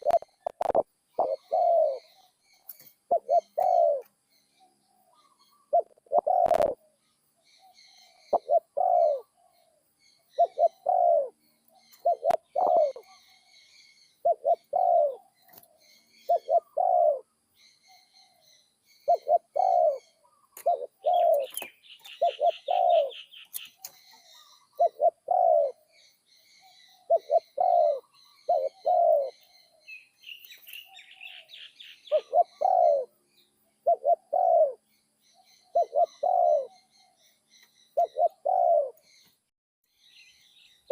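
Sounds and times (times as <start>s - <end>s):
dove cooing: 0.0s - 17.3s, 19.0s - 30.0s, 30.6s - 33.2s, 33.8s - 37.2s, 38.0s - 39.0s
small birds chirping: 0.0s - 40.9s.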